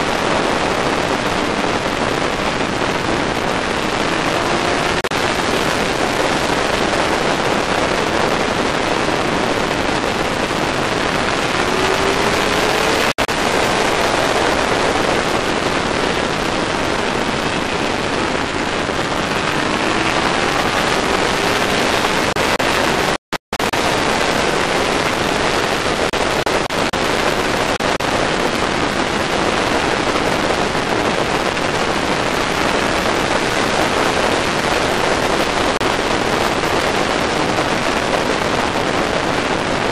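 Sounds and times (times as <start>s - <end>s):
motorcycle engine: 0.0s - 36.6s
heavy wind rush: 0.0s - 39.9s.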